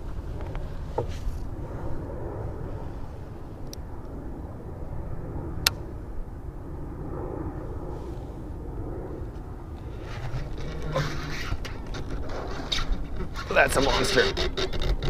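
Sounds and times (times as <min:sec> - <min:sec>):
steady low rumble: 0:00.0 - 0:14.3.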